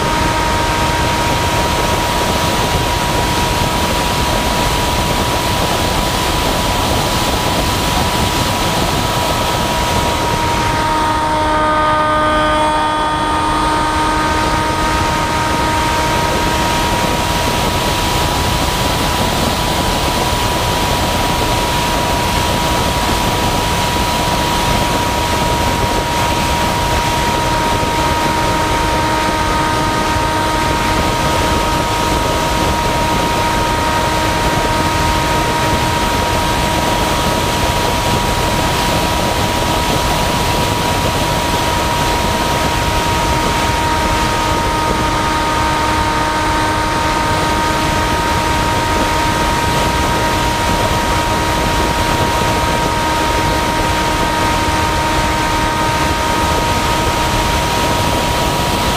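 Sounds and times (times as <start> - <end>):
motor and propeller whine: 0.0 - 58.9
wind noise: 0.0 - 58.9.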